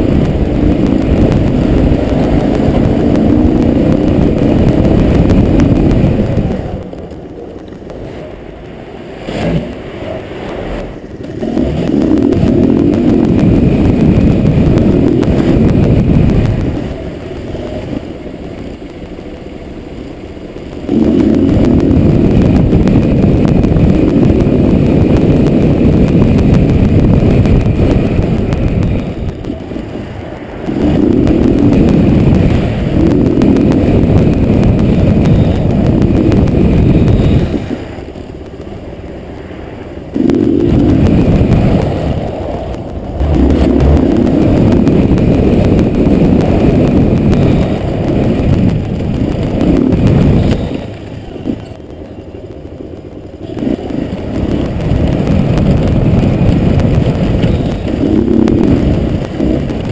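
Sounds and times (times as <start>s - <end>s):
motorcycle engine: 0.0s - 59.9s
wind rush on microphone: 0.0s - 59.9s.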